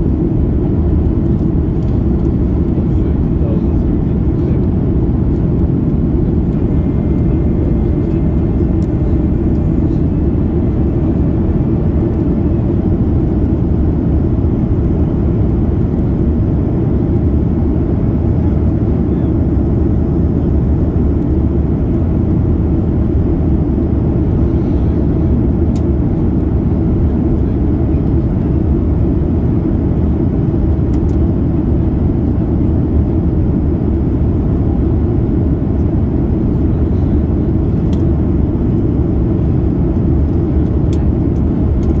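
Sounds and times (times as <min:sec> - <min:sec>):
low rumble of airflow and engines: 0:00.0 - 0:42.0.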